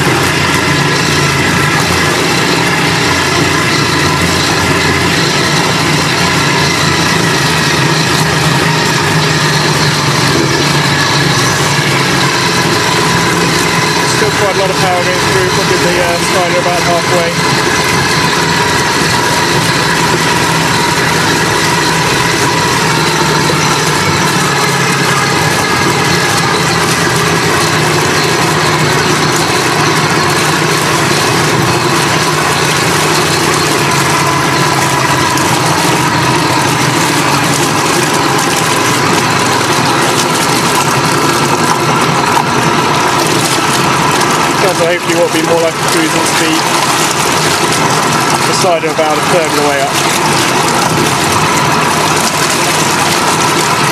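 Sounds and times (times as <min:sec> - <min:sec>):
electric motor whine: 0:00.0 - 0:53.9
propeller churning water: 0:00.0 - 0:53.9.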